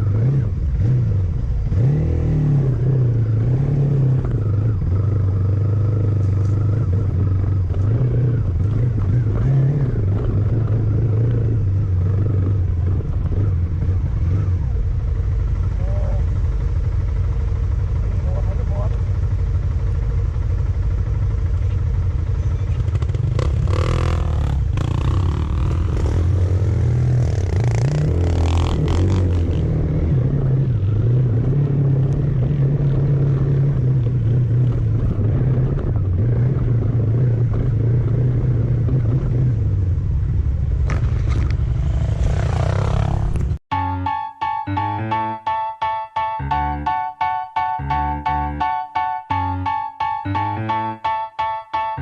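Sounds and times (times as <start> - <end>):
vehicle engine rumbling: 0.0 - 43.7.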